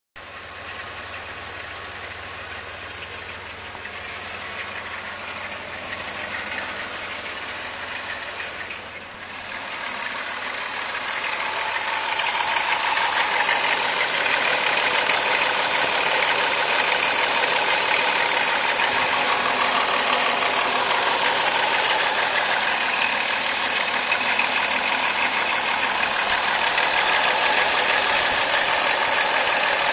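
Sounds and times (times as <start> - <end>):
car engine idling: 0.2 - 29.9.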